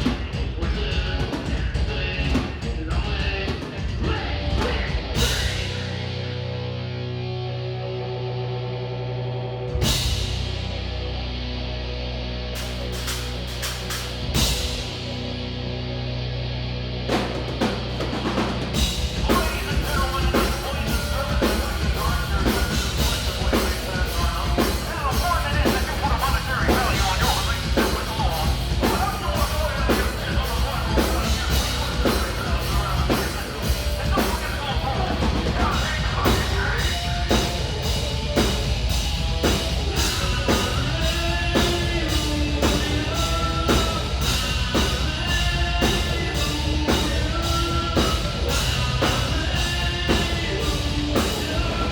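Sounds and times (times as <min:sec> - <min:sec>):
steady drum beat: 0:00.0 - 0:06.3, 0:09.8 - 0:10.8, 0:12.6 - 0:15.3, 0:17.1 - 0:51.9
live metal band playing: 0:00.0 - 0:51.9.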